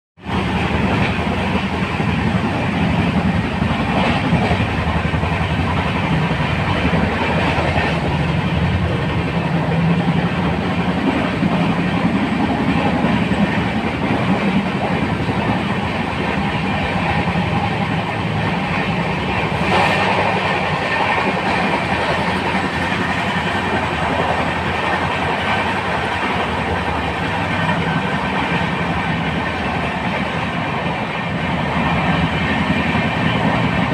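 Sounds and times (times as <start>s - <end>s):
train clickety-clack: 0.2s - 33.9s
train wheels rumbling on rail: 0.2s - 33.9s.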